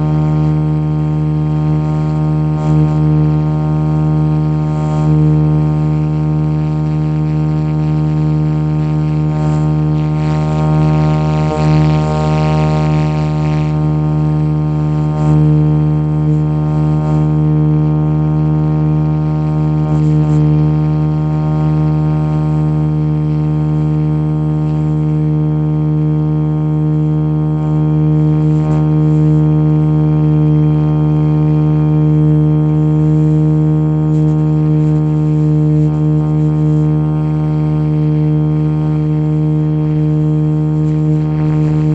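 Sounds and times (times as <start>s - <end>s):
model helicopter humming: 0.0s - 41.9s.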